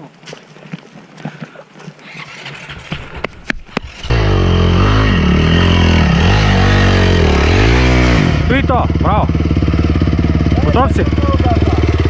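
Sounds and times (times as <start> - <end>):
motorcycle engine revving: 2.1 - 12.0.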